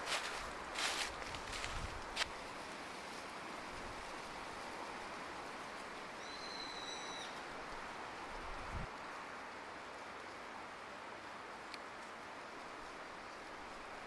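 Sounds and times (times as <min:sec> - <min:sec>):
woodland ambience hiss: 0:00.0 - 0:14.0.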